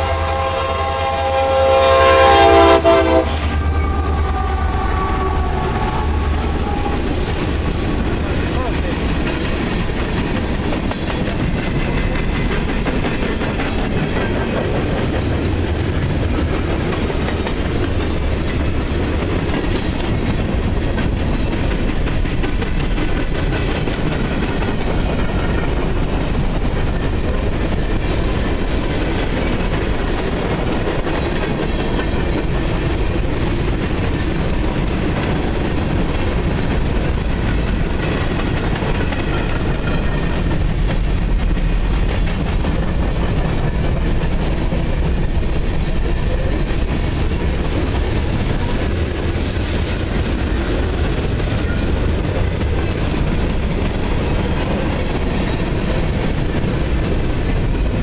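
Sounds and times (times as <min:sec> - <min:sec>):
freight cars rolling on rails: 0:00.0 - 0:58.0.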